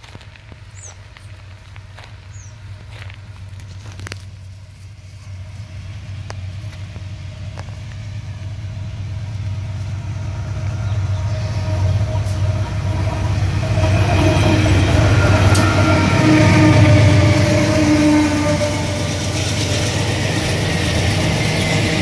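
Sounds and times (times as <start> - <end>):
locomotive engine rumble: 0.0 - 22.0
locomotive whine: 0.2 - 22.0.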